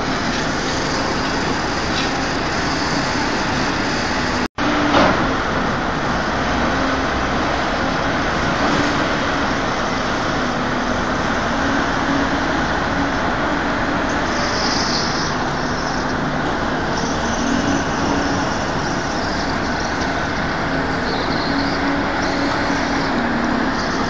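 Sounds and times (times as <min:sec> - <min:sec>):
engine running: 0:00.0 - 0:24.0
noisy rumble: 0:00.0 - 0:24.0.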